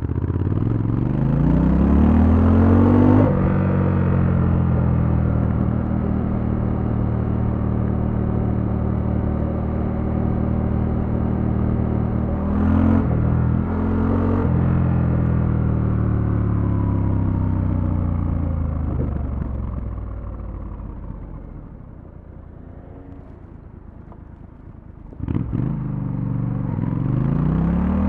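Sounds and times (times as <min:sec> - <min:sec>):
motorcycle engine revving: 0:00.0 - 0:20.7, 0:25.1 - 0:28.0.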